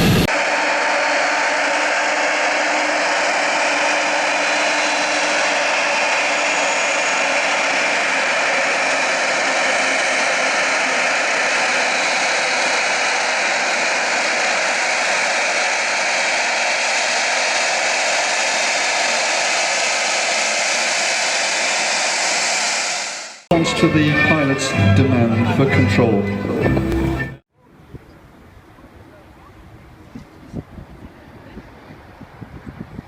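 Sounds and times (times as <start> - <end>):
jet engine running: 0.0 - 27.4.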